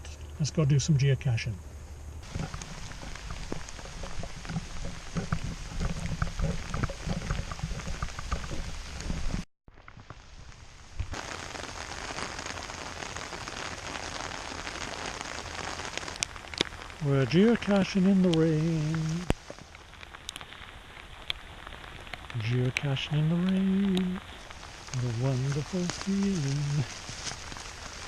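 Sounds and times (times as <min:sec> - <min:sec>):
raindrops ticking: 0:02.2 - 0:28.0
steady rain falling: 0:02.2 - 0:28.0.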